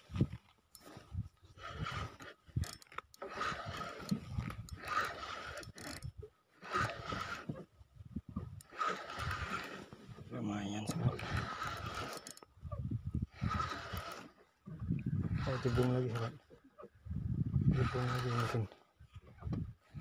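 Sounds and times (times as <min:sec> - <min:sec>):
fishing reel gears whirring: 0:00.0 - 0:07.7, 0:08.3 - 0:16.5, 0:17.6 - 0:18.8.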